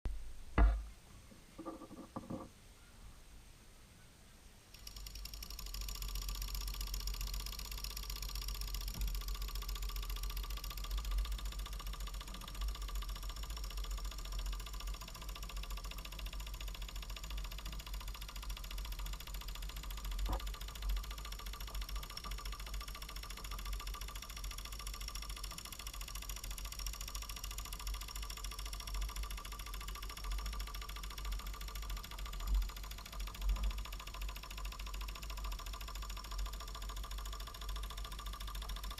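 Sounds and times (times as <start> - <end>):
model steam engine chuffing: 4.8 - 38.9.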